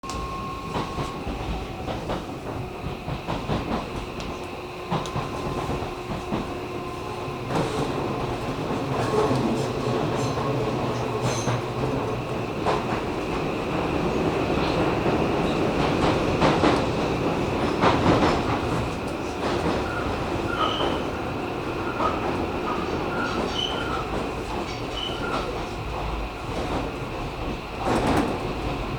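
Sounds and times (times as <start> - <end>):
electric train running on rails: 0.0 - 28.9.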